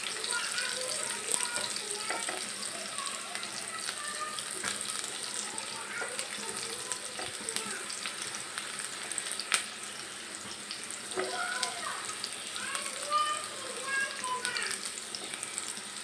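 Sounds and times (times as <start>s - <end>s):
spatula stirring in a pan: 0.0s - 16.0s
vegetables sizzling in hot oil: 0.0s - 16.0s.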